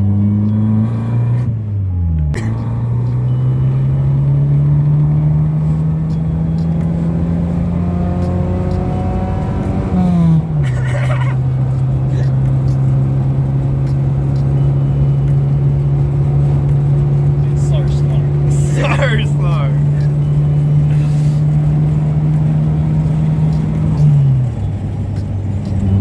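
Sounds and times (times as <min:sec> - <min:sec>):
car engine without muffler: 0:00.0 - 0:26.0.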